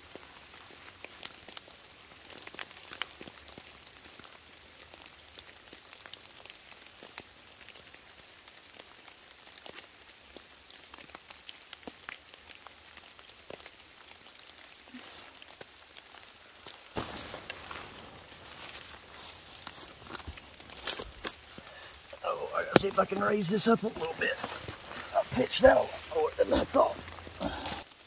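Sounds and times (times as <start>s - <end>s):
light rain on leaves and tarp: 0.0s - 28.0s.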